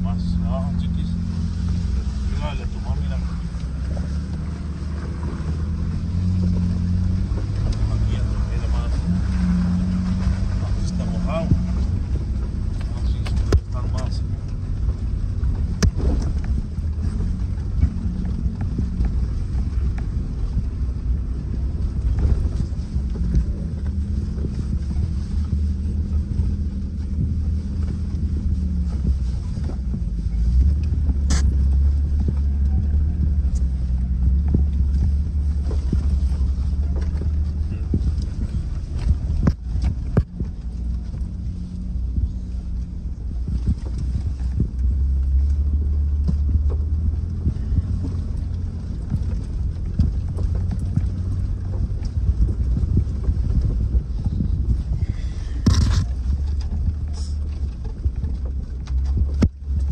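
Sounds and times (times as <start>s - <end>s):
truck engine and tyres on dirt: 0.0s - 59.9s.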